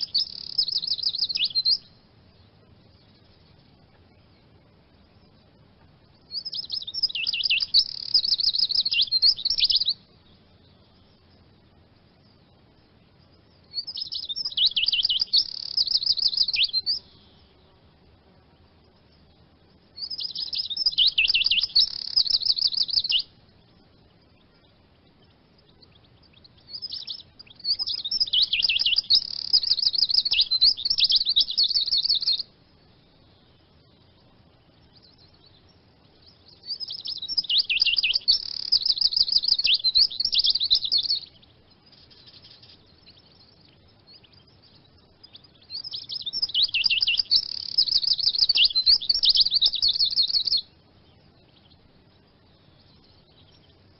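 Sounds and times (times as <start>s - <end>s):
bird twittering song: 0.0s - 53.9s.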